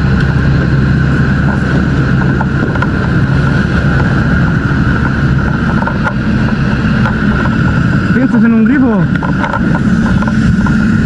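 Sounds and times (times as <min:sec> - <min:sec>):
large engine droning: 0:00.0 - 0:11.0.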